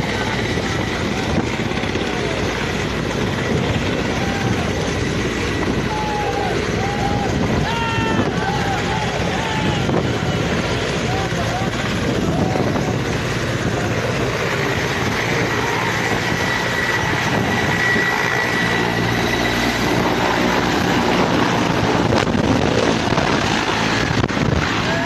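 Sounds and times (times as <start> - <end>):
helicopter rotor and turbine noise: 0.0 - 25.0
high turbine whine: 0.0 - 25.0.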